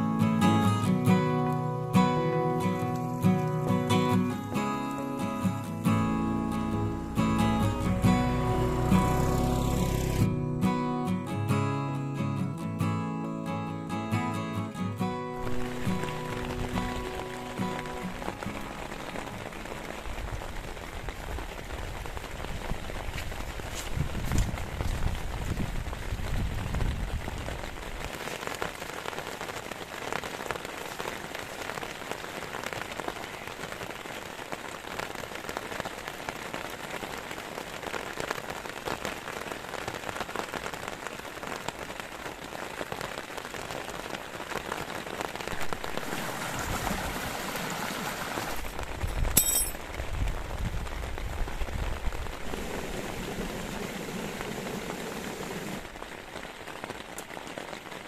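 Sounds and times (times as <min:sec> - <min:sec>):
heavy rain patter: 0:00.0 - 0:58.0.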